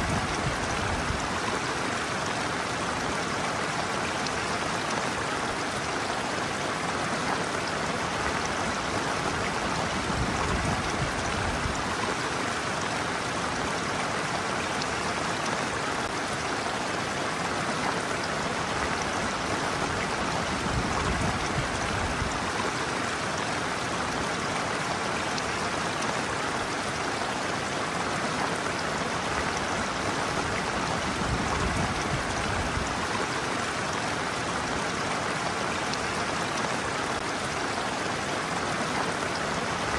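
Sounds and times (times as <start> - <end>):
stream water splashing over feet: 0.0 - 39.9.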